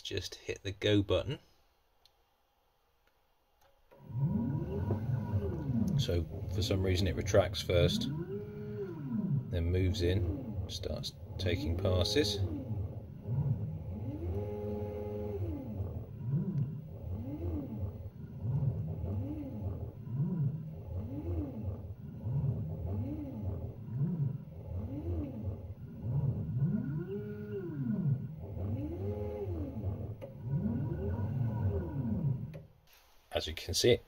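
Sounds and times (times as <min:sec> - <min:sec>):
stepper motors whining: 0:03.9 - 0:32.6
steady low hum: 0:04.1 - 0:32.6.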